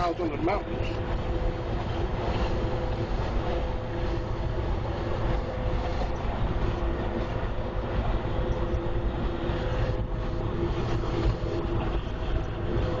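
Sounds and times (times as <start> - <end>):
steady hum: 0.0 - 13.0
truck engine and road rumble: 0.0 - 13.0.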